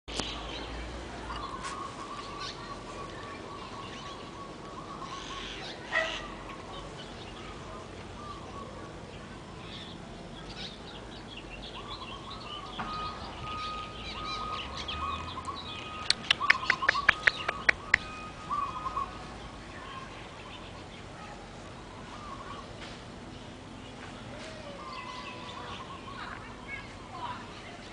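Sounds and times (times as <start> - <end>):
small birds chirping: 0.1 - 27.9.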